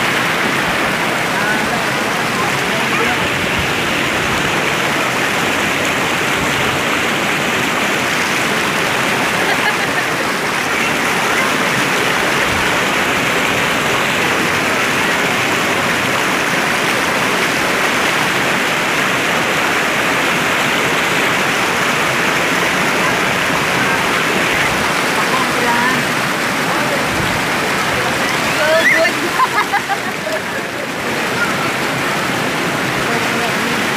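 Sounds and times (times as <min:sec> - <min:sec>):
spring water rushing: 0:00.0 - 0:33.9.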